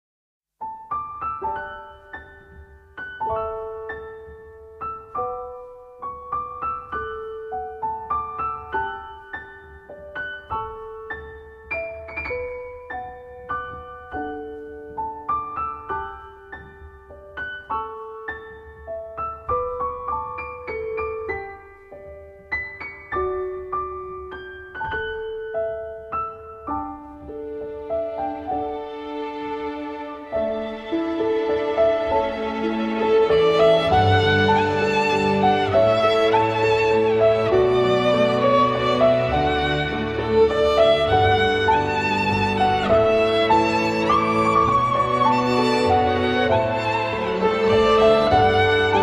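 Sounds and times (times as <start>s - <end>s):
slow piano music: 0.6s - 49.0s.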